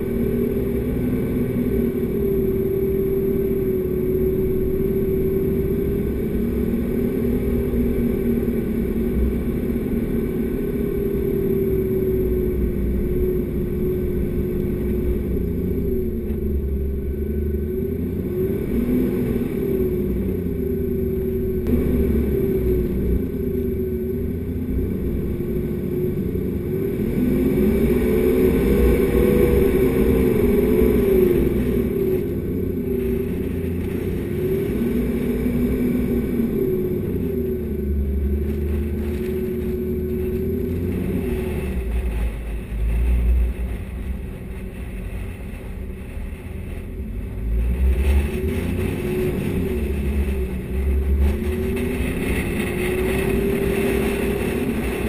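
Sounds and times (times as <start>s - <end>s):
vehicle engine revving in sand: 0.0s - 55.0s.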